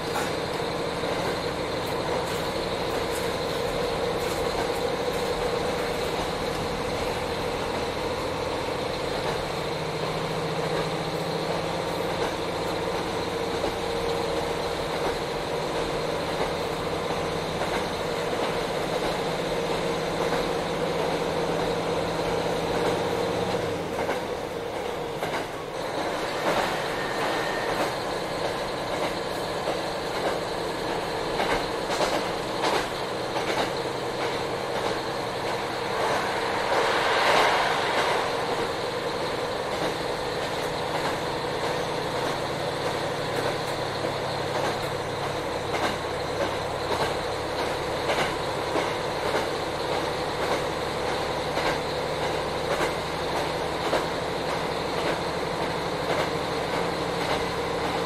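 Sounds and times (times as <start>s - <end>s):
wheels clicking over rail joints: 0.0s - 35.6s, 39.7s - 58.0s
diesel engine drone: 0.0s - 53.4s
train wheel and rail noise: 0.0s - 58.0s.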